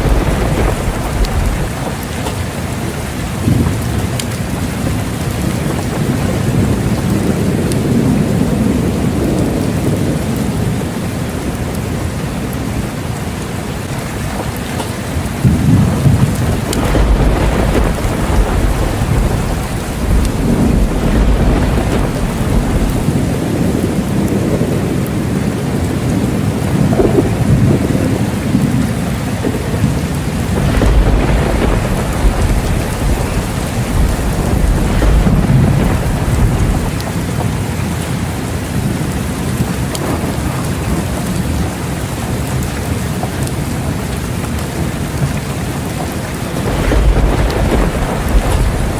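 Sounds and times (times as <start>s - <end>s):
low rolling thunder: 0.0s - 13.0s, 13.8s - 48.9s
heavy rain: 0.0s - 48.9s.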